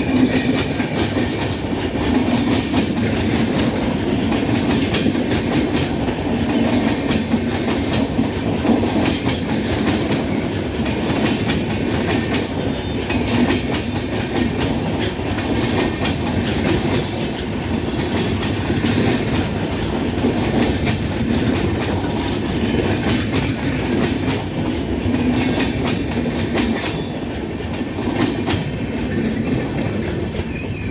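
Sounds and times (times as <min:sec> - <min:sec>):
train rumble on rails: 0:00.0 - 0:30.9
wheels clicking over track: 0:00.0 - 0:30.9.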